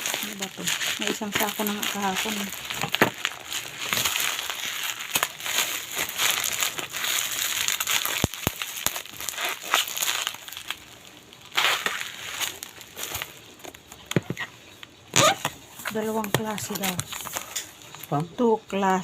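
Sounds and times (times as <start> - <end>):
packaging rustling and crackling: 0.0 - 18.9.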